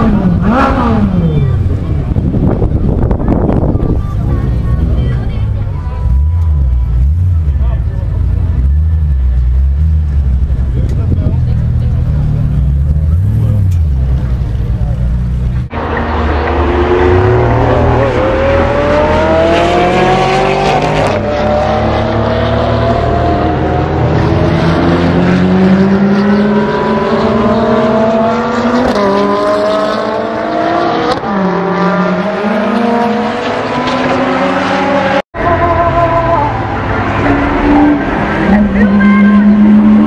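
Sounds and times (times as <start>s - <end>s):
sports car engines speeding past: 0.0s - 40.0s.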